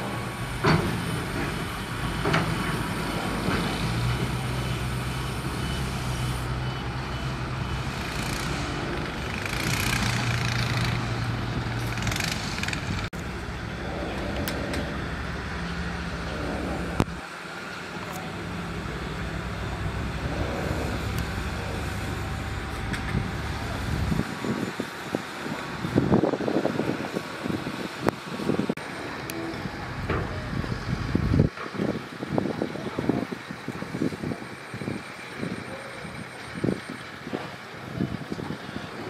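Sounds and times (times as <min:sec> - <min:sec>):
heavy machinery diesel engines: 0:00.0 - 0:39.0.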